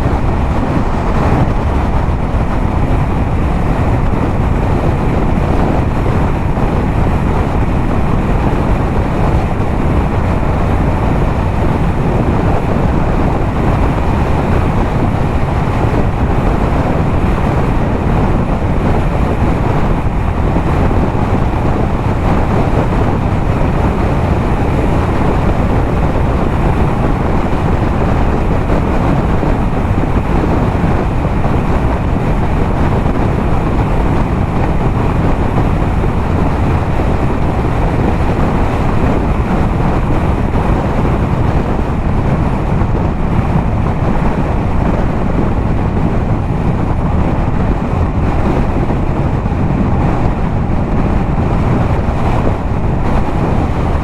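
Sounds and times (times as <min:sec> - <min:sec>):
motorcycle cruising: 0:00.0 - 0:54.0
wind rushing over microphone: 0:00.0 - 0:54.0.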